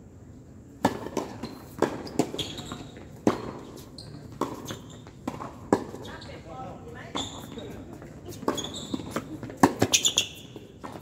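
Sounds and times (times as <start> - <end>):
tennis ball hits and bounces: 0.8 - 6.2, 7.4 - 11.0.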